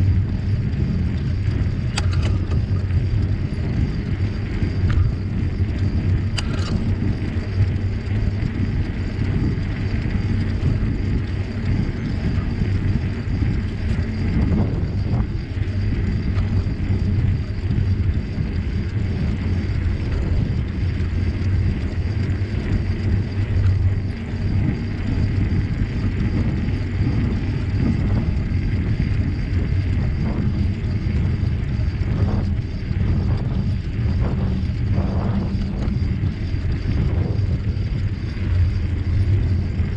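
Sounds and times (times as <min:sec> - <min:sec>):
bicycle tyre noise: 0:00.0 - 0:39.9
wind on microphone: 0:00.0 - 0:39.9.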